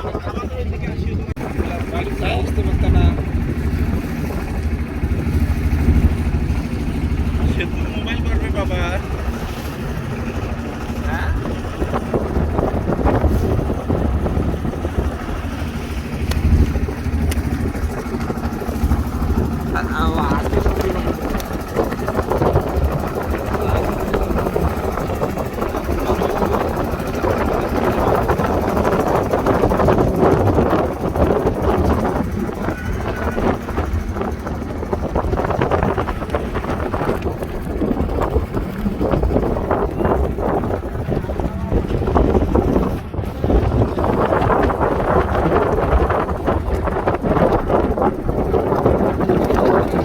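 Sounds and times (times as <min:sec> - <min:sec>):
boat engine droning: 0:00.0 - 0:50.0
wind buffeting microphone: 0:00.0 - 0:50.0.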